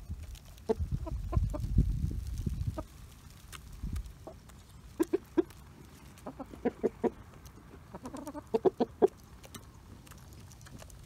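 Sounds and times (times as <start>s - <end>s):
beaks pecking seeds: 0.0s - 11.0s
chickens clucking: 0.5s - 3.0s, 4.0s - 11.0s.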